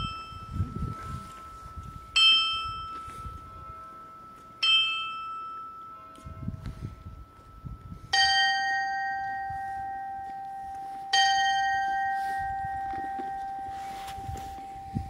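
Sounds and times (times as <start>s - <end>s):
carillon bell ringing: 0.0s - 15.0s.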